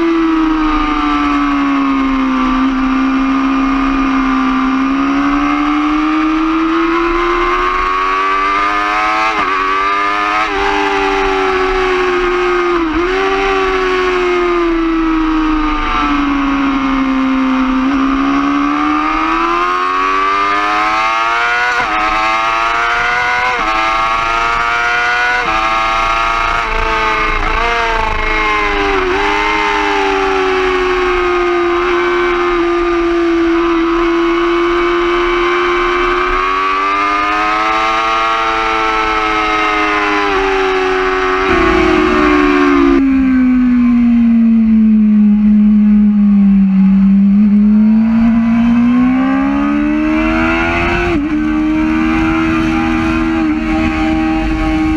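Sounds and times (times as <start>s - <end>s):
sport-bike engine at high revs: 0.0s - 43.8s, 44.4s - 54.9s.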